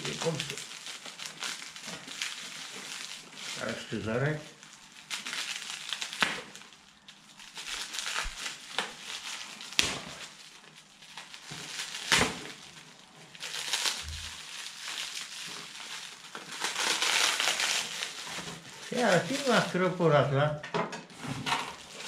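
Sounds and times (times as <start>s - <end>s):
plastic wrapping crinkling: 0.0s - 20.5s, 21.1s - 22.0s.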